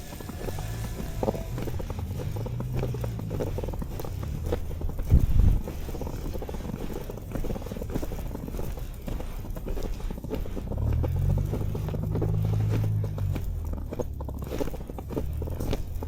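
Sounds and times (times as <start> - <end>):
footsteps crunching in snow: 0.0 - 16.0
vehicle engine humming: 0.0 - 16.0.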